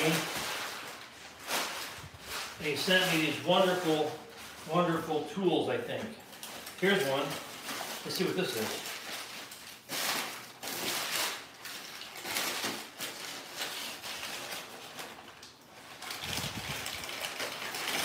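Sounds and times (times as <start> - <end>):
packing paper rustling: 0.0 - 18.0.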